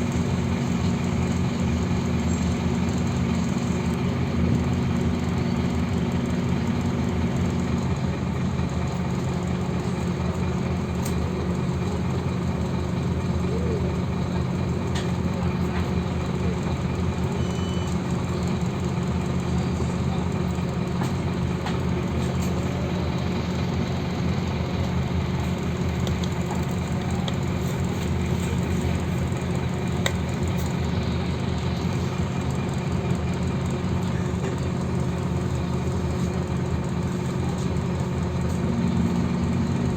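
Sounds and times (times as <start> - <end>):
bus engine humming: 0.0 - 39.9.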